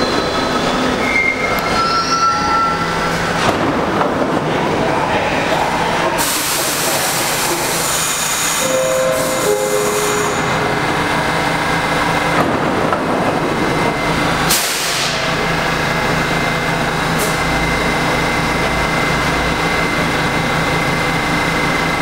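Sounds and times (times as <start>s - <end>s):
subway car equipment humming: 0.0s - 22.0s.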